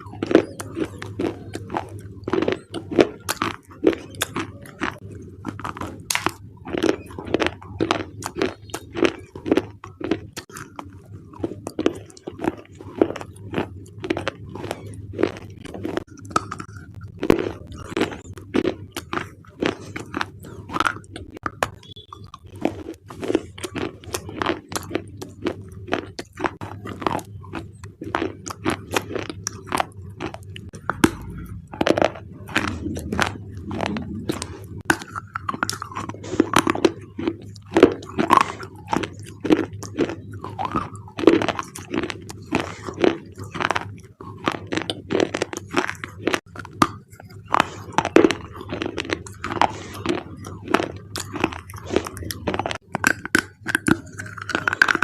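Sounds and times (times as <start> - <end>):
crunching and chewing clay: 0.0 - 55.0
faint steady hum: 0.0 - 55.0.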